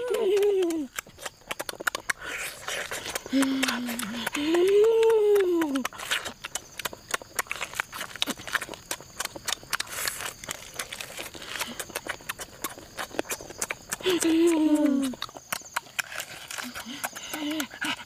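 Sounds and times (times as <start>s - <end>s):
person chewing and lip-smacking: 0.0s - 18.0s.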